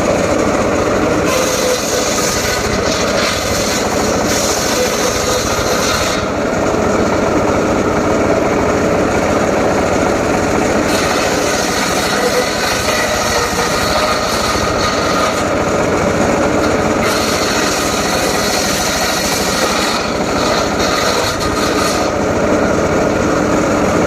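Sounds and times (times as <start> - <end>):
circular saw running: 0.0 - 24.0.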